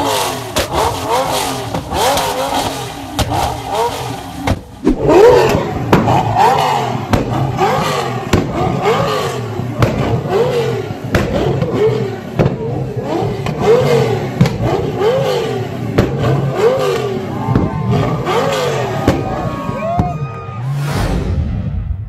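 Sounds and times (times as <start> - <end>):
exhaust pops and bangs: 0.0 - 20.2
sports car engine revving: 0.0 - 21.0.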